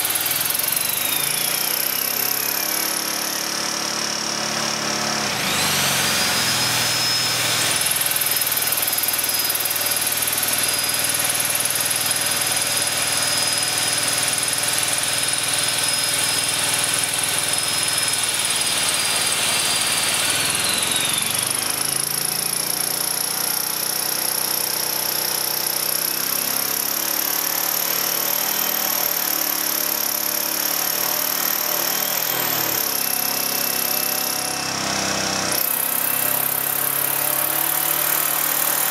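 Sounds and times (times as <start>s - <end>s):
power tool motor whine: 0.0s - 38.9s.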